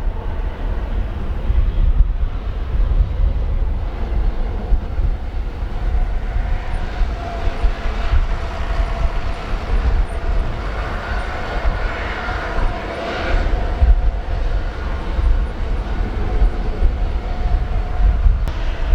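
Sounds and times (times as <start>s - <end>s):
distant jet engines whining: 0.0s - 18.9s
wind buffeting microphone: 0.0s - 18.9s.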